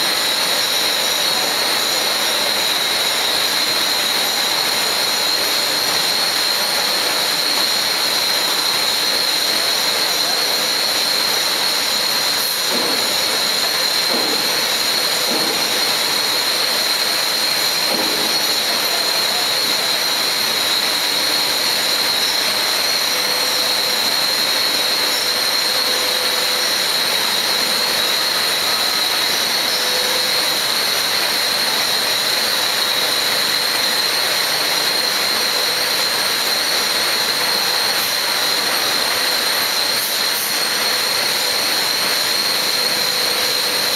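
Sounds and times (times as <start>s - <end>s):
casting machine hiss: 0.0s - 43.9s
thin high whistle: 0.0s - 43.9s.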